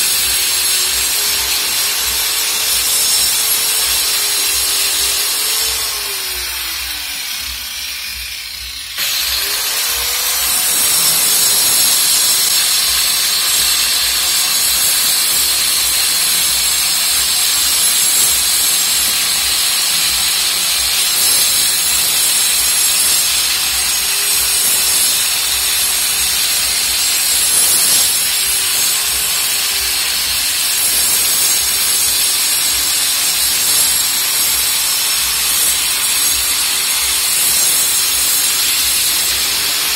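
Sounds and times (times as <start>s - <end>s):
angle grinder cutting brick: 0.0s - 39.9s.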